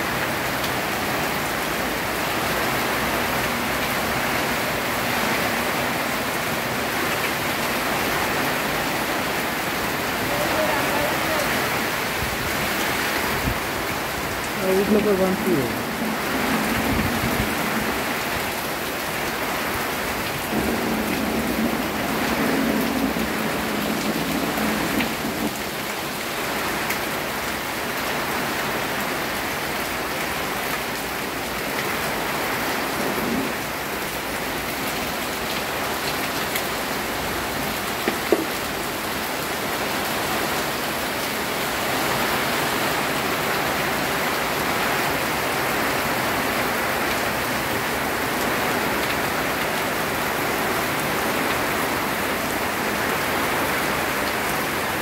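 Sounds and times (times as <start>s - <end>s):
torrential rain pouring: 0.0s - 55.0s.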